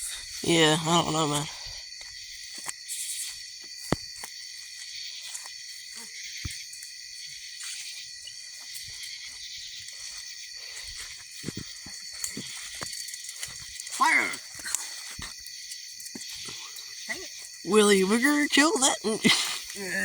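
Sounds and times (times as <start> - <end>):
chorus of insects: 0.0 - 20.0.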